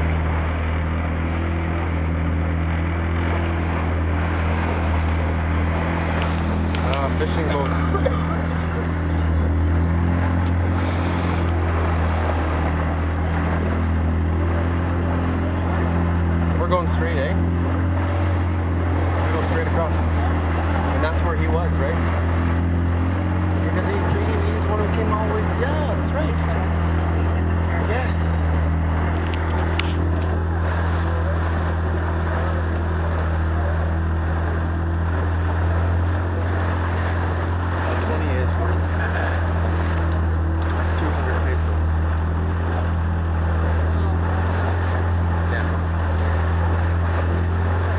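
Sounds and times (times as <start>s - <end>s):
outboard motor droning: 0.0s - 47.9s
water splashing along hull: 0.0s - 47.9s.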